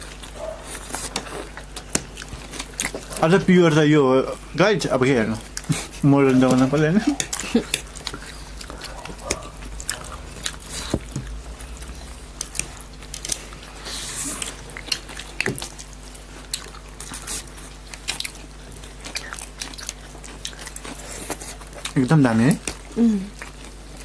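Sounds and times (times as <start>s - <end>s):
people chewing: 0.0s - 24.0s.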